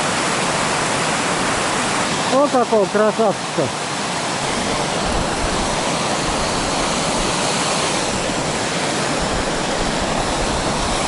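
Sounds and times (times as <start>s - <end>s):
turbulent water roaring: 0.0s - 11.0s.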